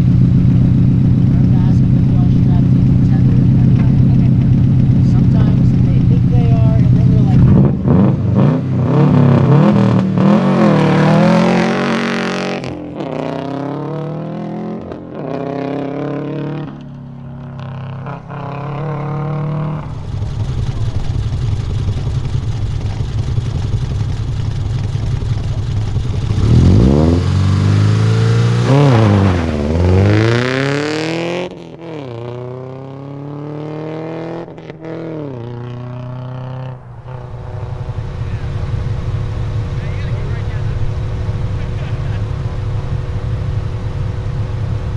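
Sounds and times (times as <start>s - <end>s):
car engine throttle blips: 0.0s - 44.9s
rally car engine revving: 0.0s - 44.9s.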